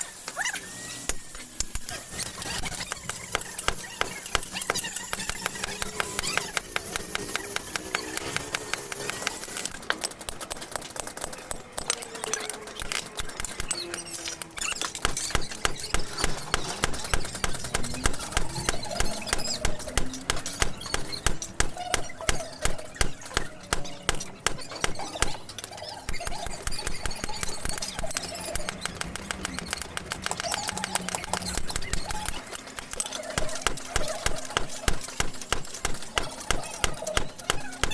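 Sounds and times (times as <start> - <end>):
hammer striking metal: 1.1 - 37.9.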